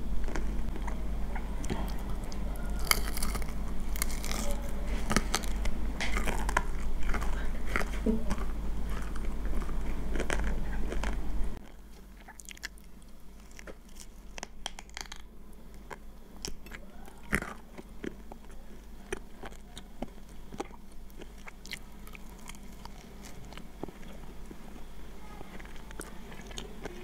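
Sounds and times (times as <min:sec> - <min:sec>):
chewing crispy fried chicken: 0:00.2 - 0:27.0.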